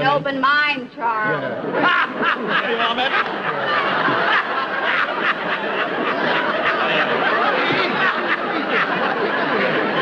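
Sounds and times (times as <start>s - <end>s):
studio audience laughing: 1.4s - 10.0s.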